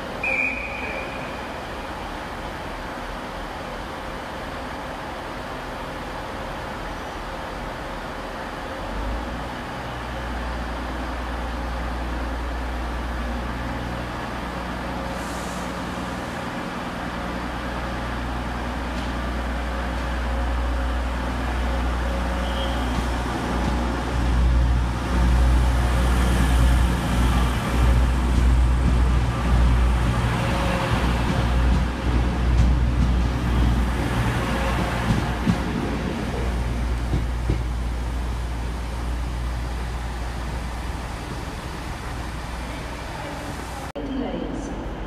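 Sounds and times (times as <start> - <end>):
diesel train engines humming: 0.0 - 45.0
train passing close by: 0.0 - 45.0.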